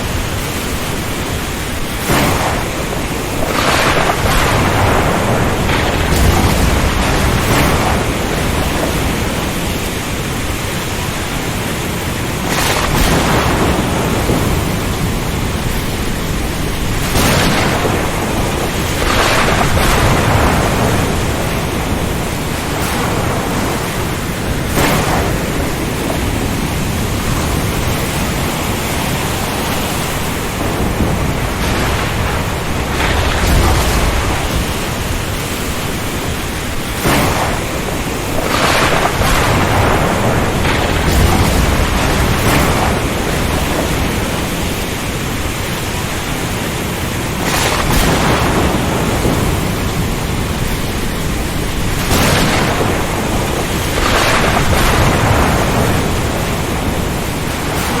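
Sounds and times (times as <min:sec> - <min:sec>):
heavy rain: 0:00.0 - 0:58.0
rumble of thunder: 0:00.0 - 0:58.0
strong wind: 0:00.0 - 0:58.0
surf: 0:00.0 - 0:58.0.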